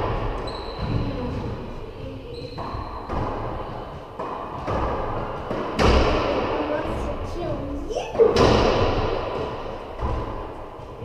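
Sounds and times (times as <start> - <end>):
racquetball hitting racquets and walls: 0.0 - 11.0.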